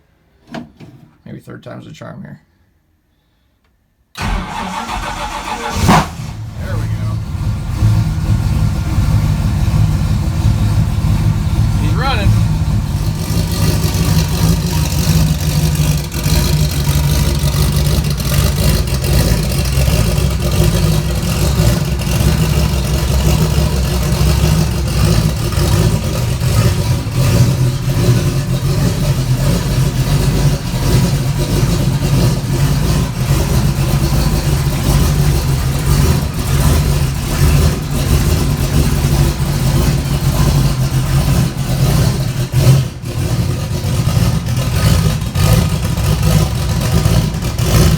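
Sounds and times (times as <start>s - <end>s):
car engine idling roughly: 4.2s - 47.9s.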